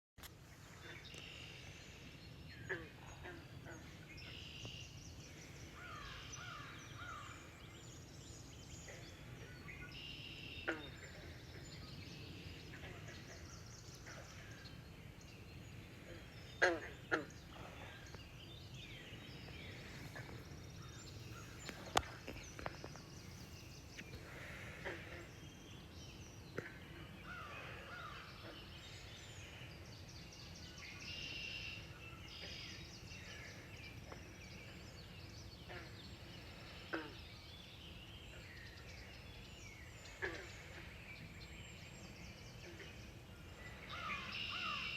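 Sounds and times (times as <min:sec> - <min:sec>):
birds chirping and trilling: 0:00.6 - 0:44.9.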